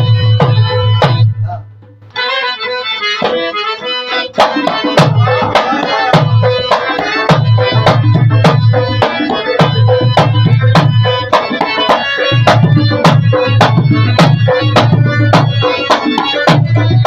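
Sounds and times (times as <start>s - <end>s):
hand drums beating: 0.0s - 2.4s, 3.1s - 17.0s
harmonium: 0.0s - 17.0s.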